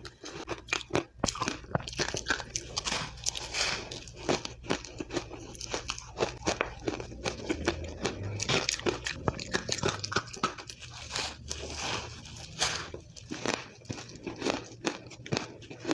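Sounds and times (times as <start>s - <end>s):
ice being chewed: 0.0s - 15.9s.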